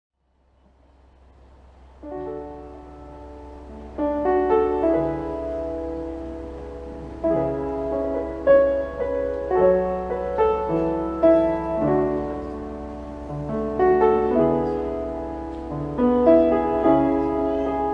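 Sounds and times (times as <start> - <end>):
steady low hum: 0.2 - 17.9
grand piano slow chords: 0.3 - 17.9.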